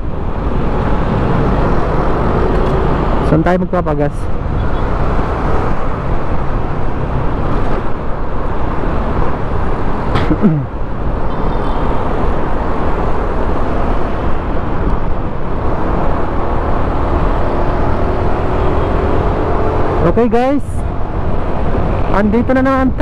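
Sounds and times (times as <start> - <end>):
wind and road rush: 0.0 - 23.0.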